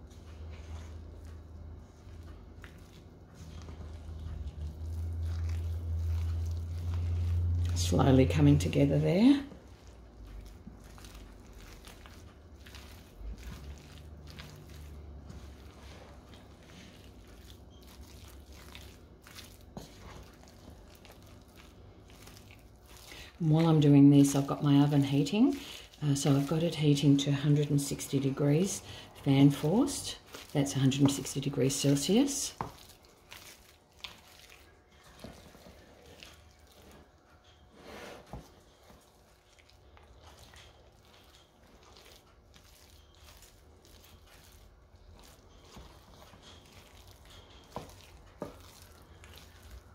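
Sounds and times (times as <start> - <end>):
spoon stirring thick batter: 0.0 - 49.9.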